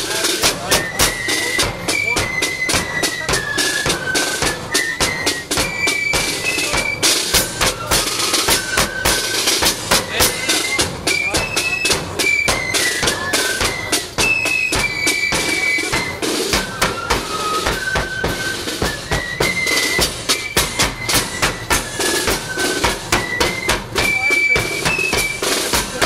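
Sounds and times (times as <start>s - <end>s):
bass drum and snare beat: 0.0s - 26.0s
flute melody: 0.0s - 26.0s.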